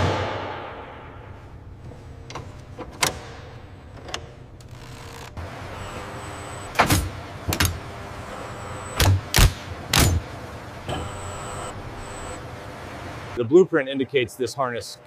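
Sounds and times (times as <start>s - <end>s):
factory machinery hum: 0.0s - 15.0s.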